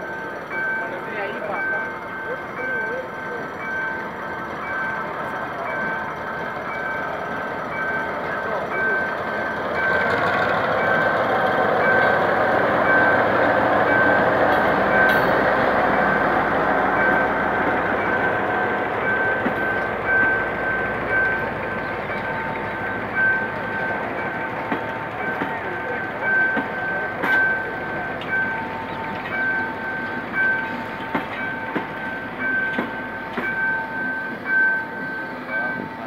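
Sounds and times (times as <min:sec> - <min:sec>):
crossing warning signal beeps: 0:00.0 - 0:36.0
train rolling past: 0:00.0 - 0:36.0.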